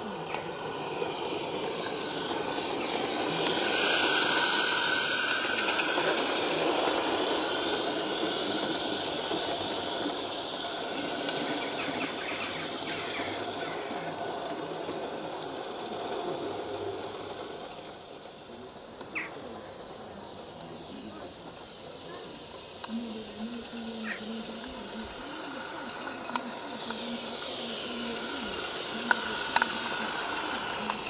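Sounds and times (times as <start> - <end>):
steam hissing: 0.0 - 31.0
steam locomotive passing: 0.0 - 31.0.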